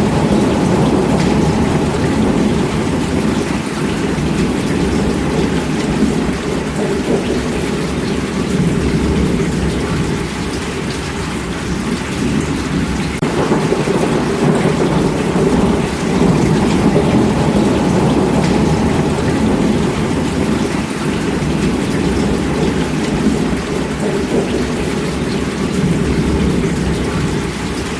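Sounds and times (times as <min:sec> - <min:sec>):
deep rumble of thunder: 0:00.0 - 0:27.9
heavy rainfall: 0:00.0 - 0:27.9.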